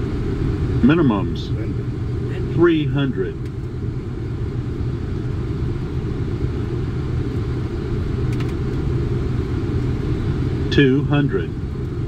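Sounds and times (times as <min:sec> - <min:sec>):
airflow and engine noise: 0:00.0 - 0:12.0
steady low hum: 0:00.0 - 0:12.0.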